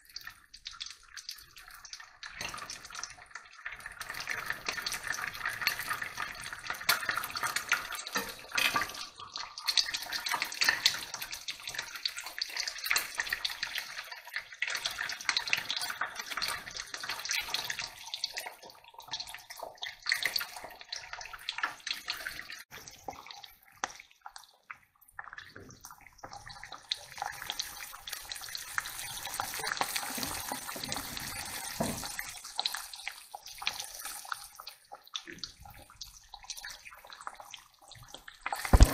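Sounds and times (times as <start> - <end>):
eggs sizzling in a frying pan: 0.0 - 38.9.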